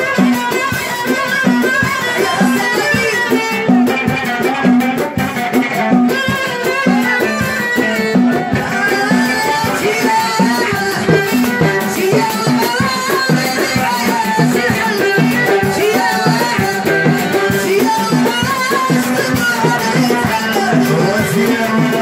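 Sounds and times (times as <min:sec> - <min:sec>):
drum kit and percussion beat: 0:00.0 - 0:22.0
woman singing into microphone: 0:00.0 - 0:22.0.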